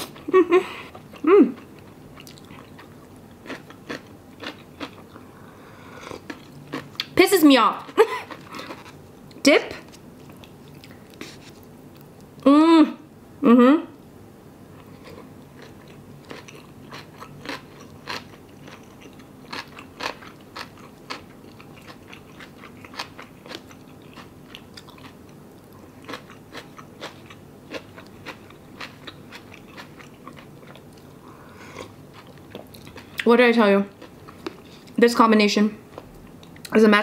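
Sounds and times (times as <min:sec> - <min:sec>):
person chewing food: 0:00.0 - 0:07.2, 0:07.8 - 0:12.4, 0:14.7 - 0:33.3, 0:33.9 - 0:35.0.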